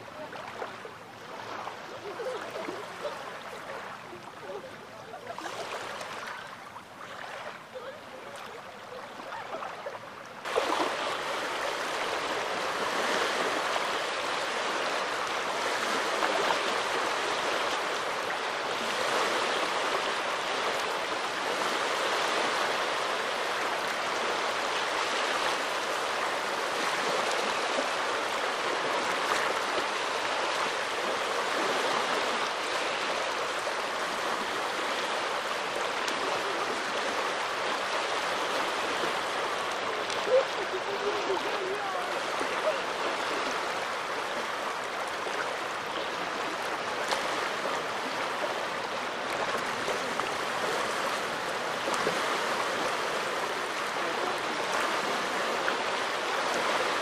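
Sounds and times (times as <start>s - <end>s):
small waves washing onto beach: 0.0s - 57.0s.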